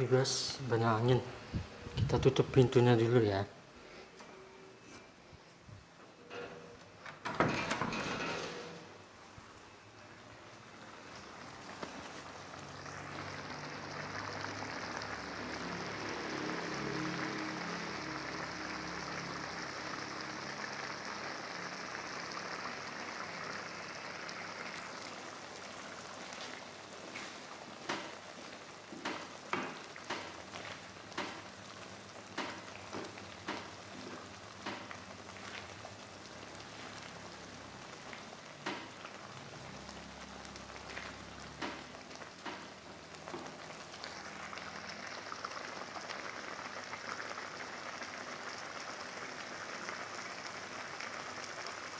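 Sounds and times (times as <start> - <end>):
chili paste sizzling in oil: 9.2 - 51.9.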